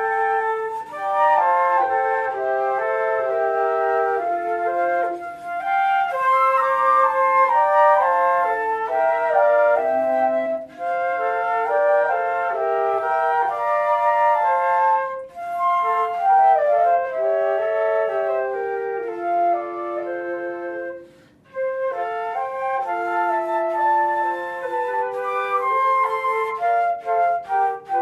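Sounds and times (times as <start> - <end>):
flutes playing in harmony: 0.0 - 28.0.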